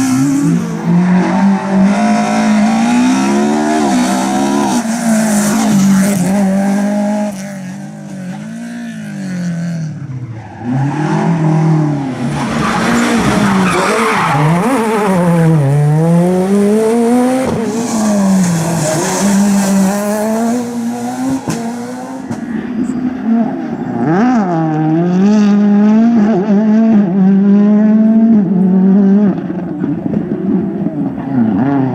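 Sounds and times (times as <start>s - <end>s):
rally car engine revving: 0.0s - 31.9s.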